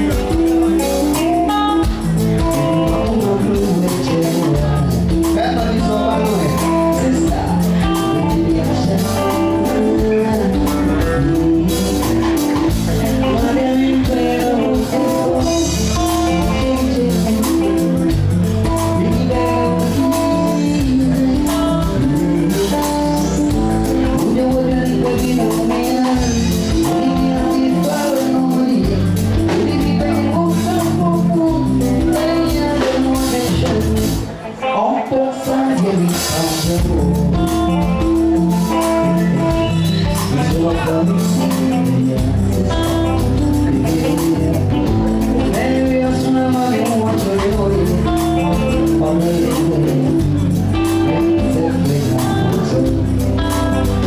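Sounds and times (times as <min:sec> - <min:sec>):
band playing with singing: 0:00.0 - 0:54.0.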